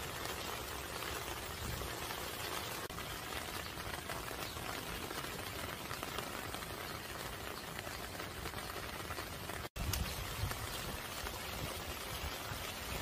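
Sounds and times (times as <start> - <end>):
rain falling on plants: 0.0 - 13.0.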